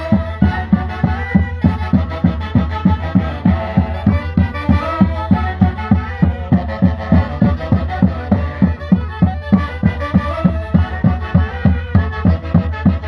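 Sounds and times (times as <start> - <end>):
band music played live: 0.0 - 13.0
saxophones playing melody: 0.0 - 13.0.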